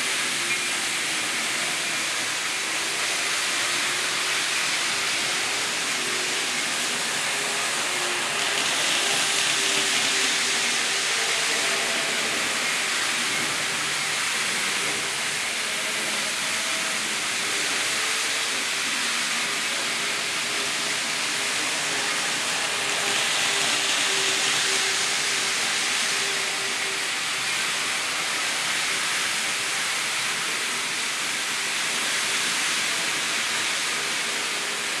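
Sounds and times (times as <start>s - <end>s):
faint motor whine: 0.0s - 35.0s
small wheels hissing on rails: 0.0s - 35.0s.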